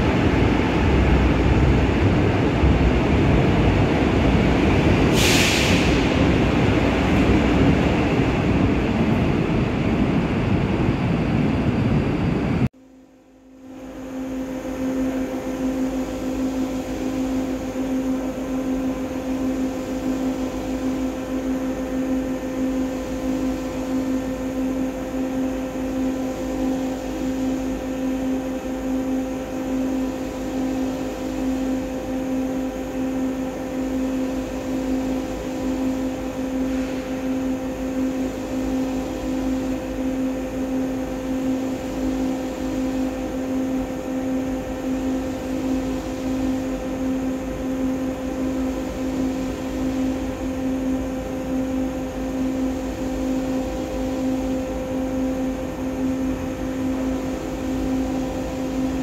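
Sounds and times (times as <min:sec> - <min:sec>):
electric train rumble: 0:00.0 - 0:59.0
steady hum with low tone: 0:00.0 - 0:59.0.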